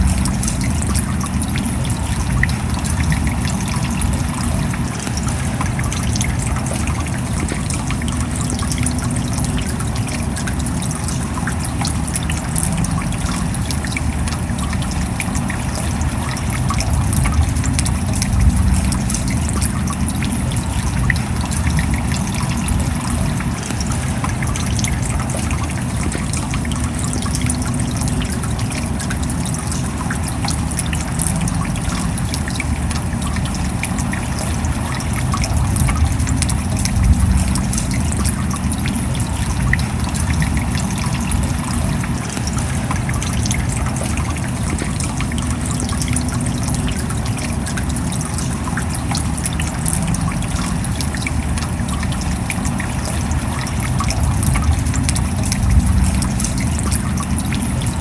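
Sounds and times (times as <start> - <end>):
steady rain patter: 0.0 - 58.0
trickling water: 0.0 - 58.0.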